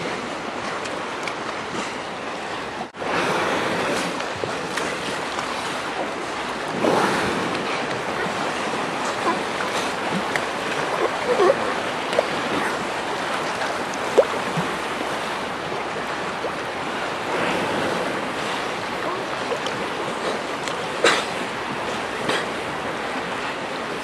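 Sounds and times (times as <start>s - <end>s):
sea water lapping and splashing: 0.0s - 24.0s
wind: 0.0s - 24.0s.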